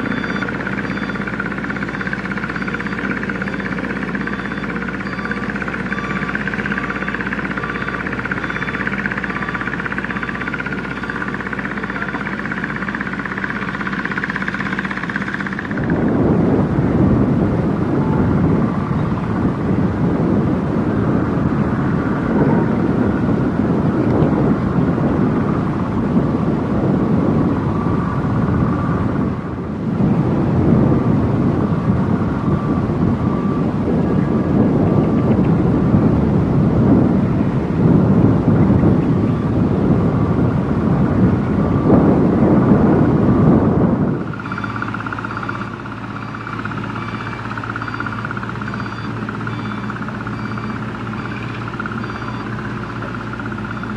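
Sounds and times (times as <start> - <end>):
excavator engine hum: 0.0 - 53.9.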